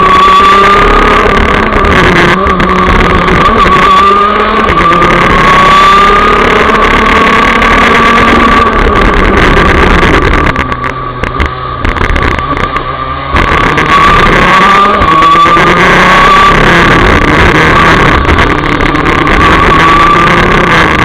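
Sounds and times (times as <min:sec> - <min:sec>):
kart engine at high revs: 0:00.0 - 0:21.0.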